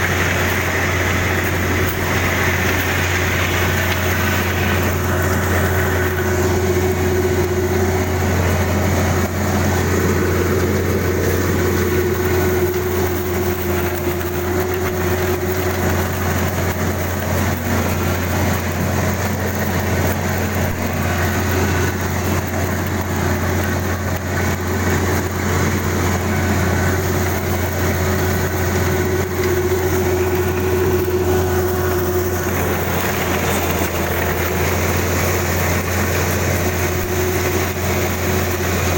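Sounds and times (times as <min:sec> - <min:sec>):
combine harvester engine humming: 0:00.0 - 0:38.9.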